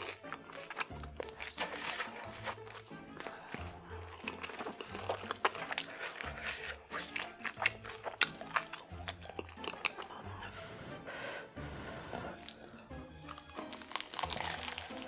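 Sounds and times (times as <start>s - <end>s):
crunchy biting and chewing: 0.0s - 10.7s, 12.1s - 15.0s.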